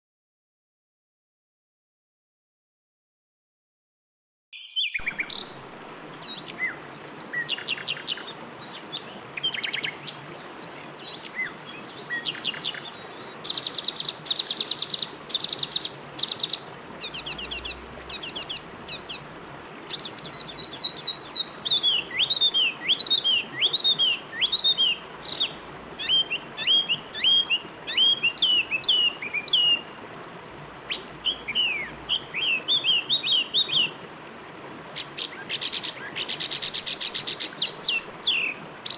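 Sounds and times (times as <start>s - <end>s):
birds singing and calling: 4.6s - 19.3s, 19.9s - 29.8s, 30.9s - 34.0s, 35.0s - 38.9s
flowing water: 4.8s - 38.9s.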